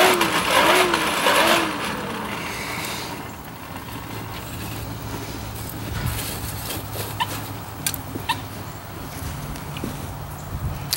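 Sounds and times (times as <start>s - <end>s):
forge blower whining: 0.0s - 9.6s.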